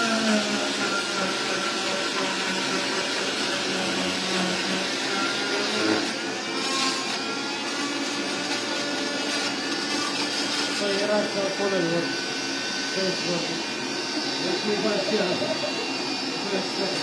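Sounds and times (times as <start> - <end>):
cast saw motor whine: 0.0 - 17.0.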